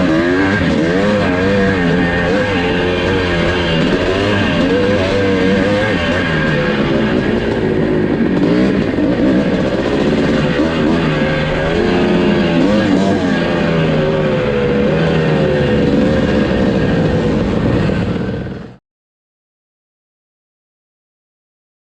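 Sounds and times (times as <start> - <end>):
motocross engine revving: 0.0 - 18.8.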